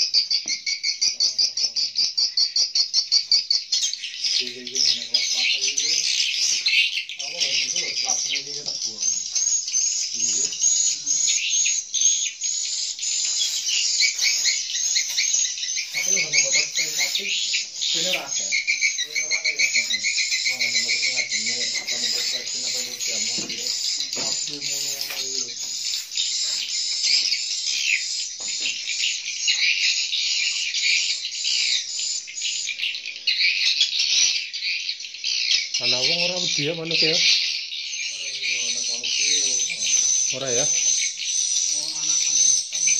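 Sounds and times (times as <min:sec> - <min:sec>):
swiftlets twittering: 0:00.0 - 0:33.7, 0:35.7 - 0:42.9
birds chirping in a din: 0:00.0 - 0:42.9.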